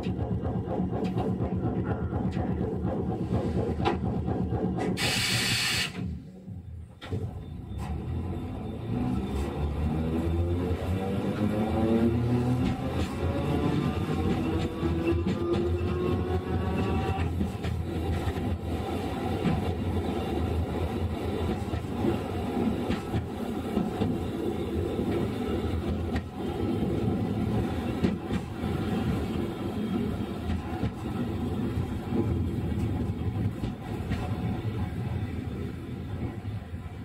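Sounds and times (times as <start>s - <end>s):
tram wheels rumbling: 0.0s - 7.2s, 7.8s - 37.0s.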